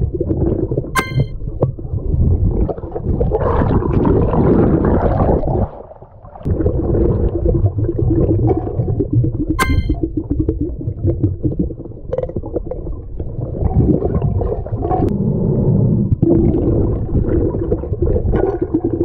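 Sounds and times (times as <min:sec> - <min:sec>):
muffled underwater rumble: 0:00.0 - 0:19.0
seawater gurgling: 0:00.0 - 0:19.0.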